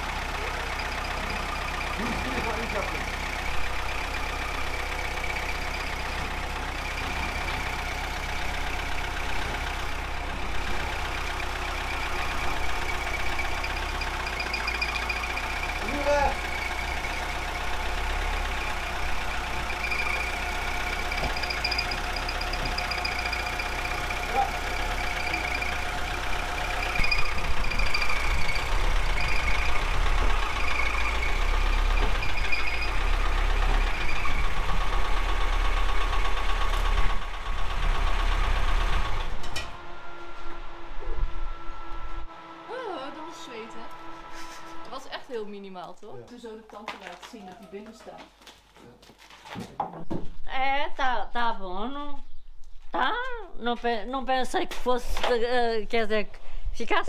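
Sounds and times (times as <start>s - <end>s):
car engine running at low speed: 0.0s - 46.3s.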